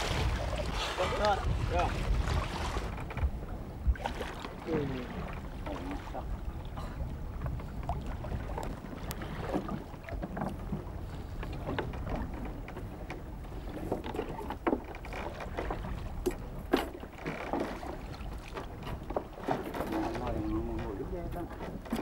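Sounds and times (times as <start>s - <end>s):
underwater low rumble: 0.0s - 19.3s.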